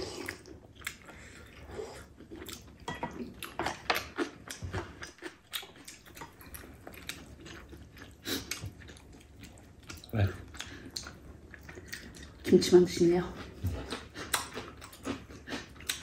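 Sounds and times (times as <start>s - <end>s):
people chewing crunchy food: 0.0s - 16.0s.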